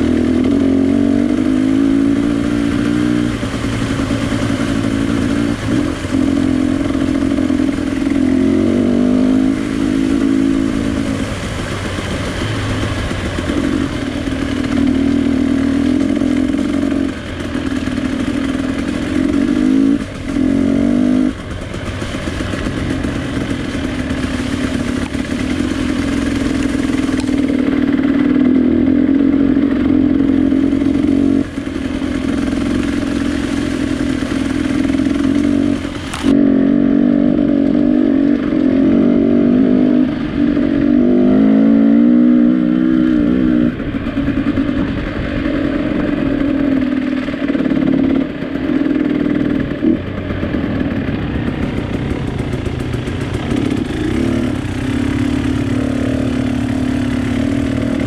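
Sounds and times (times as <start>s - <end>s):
vehicle engine under load: 0.0s - 58.0s.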